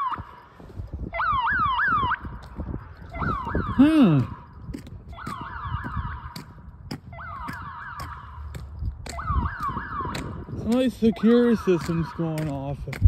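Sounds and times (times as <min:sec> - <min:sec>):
alarm siren rising sweeps: 0:00.0 - 0:12.6.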